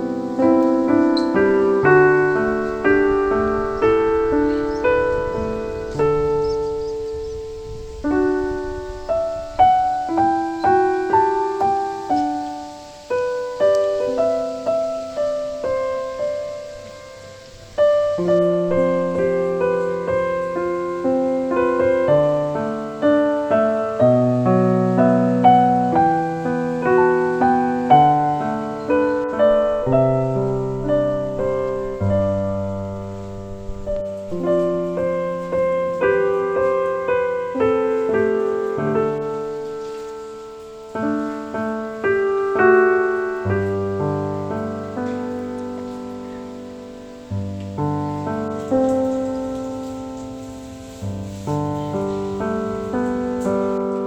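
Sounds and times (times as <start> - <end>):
gentle solo piano: 0.0 - 54.0.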